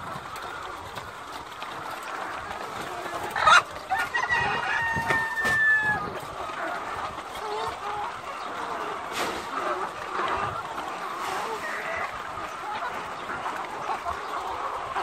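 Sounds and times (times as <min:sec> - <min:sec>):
hens clucking and calling: 0:00.0 - 0:15.0.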